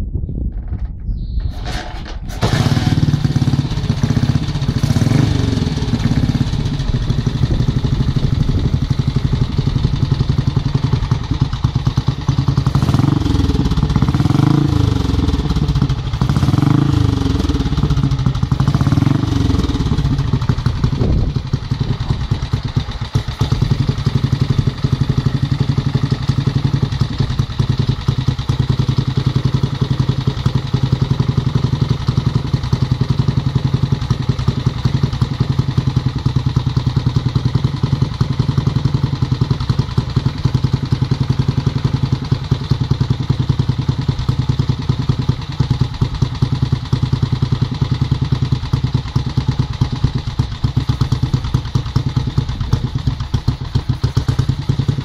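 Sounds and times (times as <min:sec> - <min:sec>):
motorcycle engine kick-started: 0:00.4 - 0:55.0
single-cylinder engine revving: 0:01.5 - 0:55.0.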